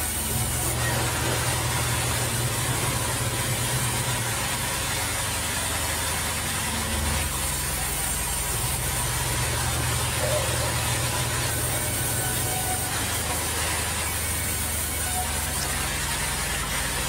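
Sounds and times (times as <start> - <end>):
band saw machinery running: 0.0 - 17.0.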